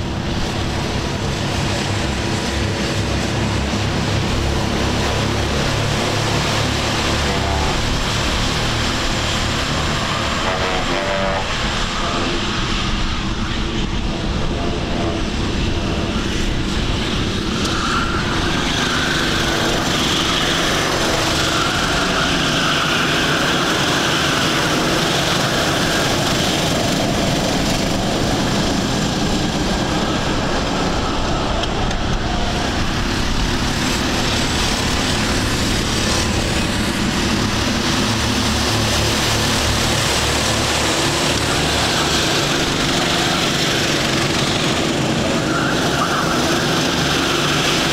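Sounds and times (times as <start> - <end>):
go-kart engines racing past: 0.0 - 10.6, 11.2 - 47.9.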